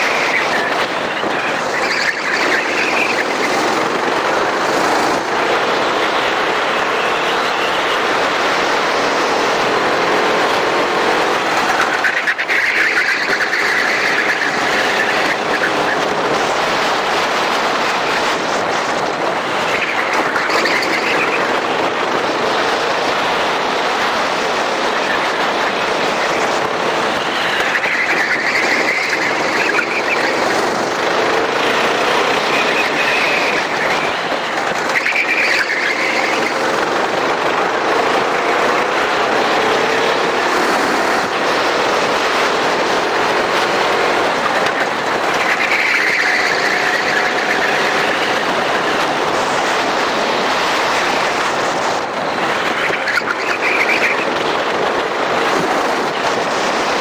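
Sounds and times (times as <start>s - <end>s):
kart engine revving: 0.0s - 57.0s
rushing noise: 0.0s - 57.0s.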